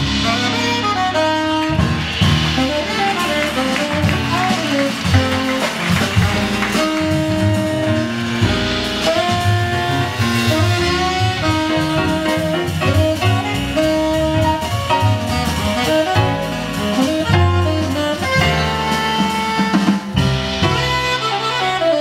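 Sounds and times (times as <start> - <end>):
plucked double bass: 0.0 - 21.2
drum kit: 0.0 - 22.0
tenor saxophone melody: 0.0 - 22.0.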